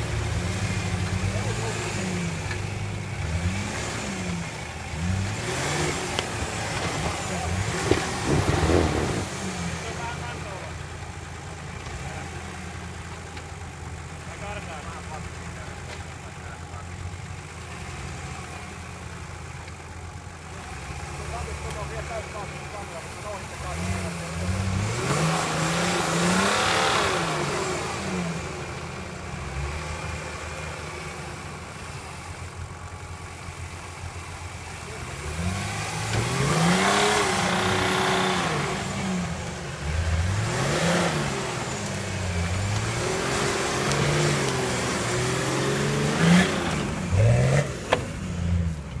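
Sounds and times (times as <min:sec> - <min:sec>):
truck engine revving: 0:00.0 - 0:49.0.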